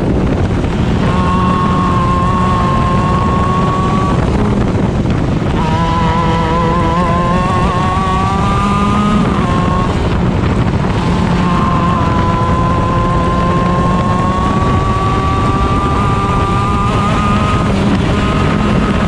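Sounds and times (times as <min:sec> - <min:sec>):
kart engine at high revs: 0:00.0 - 0:19.0.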